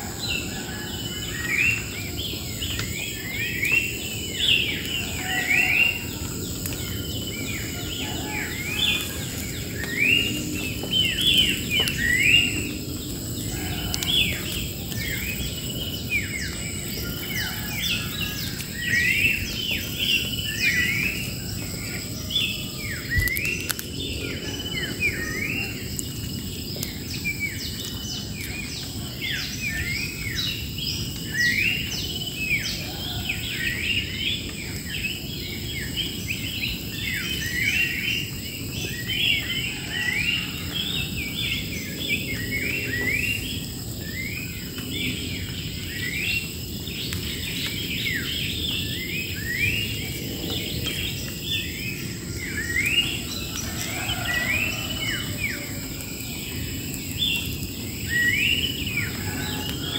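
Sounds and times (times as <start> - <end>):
birds chirping: 0.0 - 59.9
high insect drone: 0.0 - 59.9.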